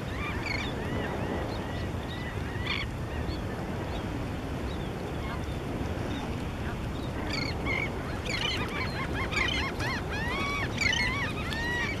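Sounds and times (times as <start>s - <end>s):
birds calling: 0.0s - 12.0s
water: 0.0s - 12.0s
wind: 0.0s - 12.0s.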